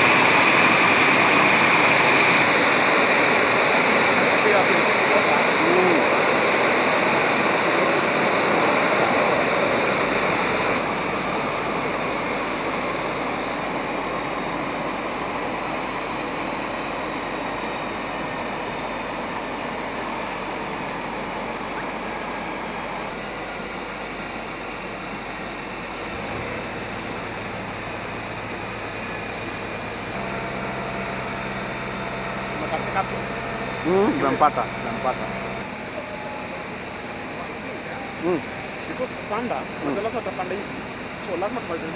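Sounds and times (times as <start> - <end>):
jet engines rushing and whining: 0.0 - 41.9.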